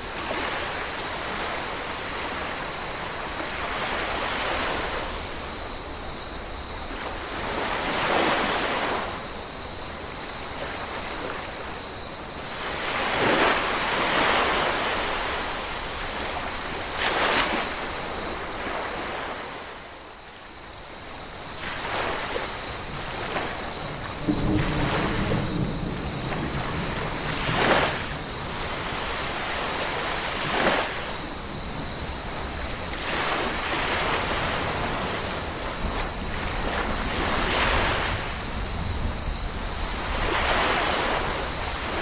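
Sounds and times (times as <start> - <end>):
ocean waves breaking on beach: 0.0 - 20.6, 21.3 - 42.0.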